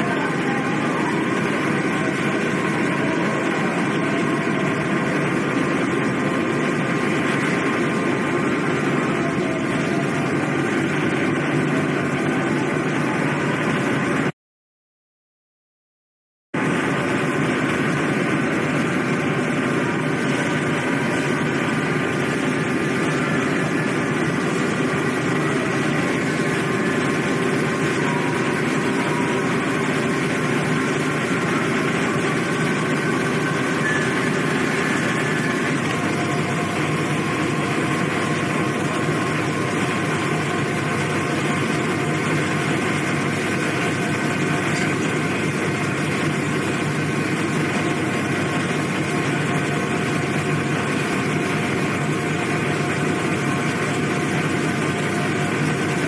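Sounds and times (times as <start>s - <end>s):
ship engines droning: 0.0s - 14.3s, 16.6s - 56.0s.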